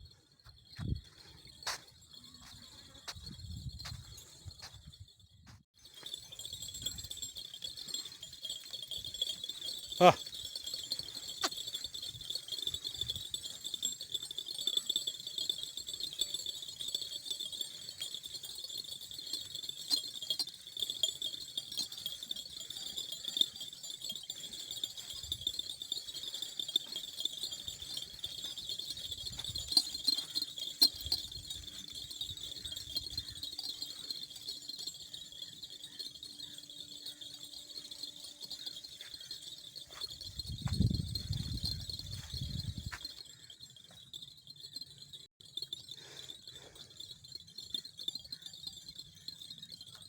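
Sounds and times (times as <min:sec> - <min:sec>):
crickets trilling: 0:05.8 - 0:50.0.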